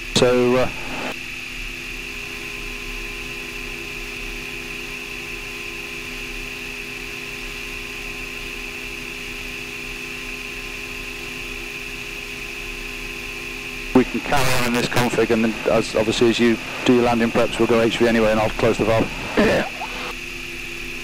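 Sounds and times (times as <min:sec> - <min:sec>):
high whine and hiss: 0:00.0 - 0:08.4, 0:10.2 - 0:21.0
aircraft propeller drone: 0:00.0 - 0:21.0.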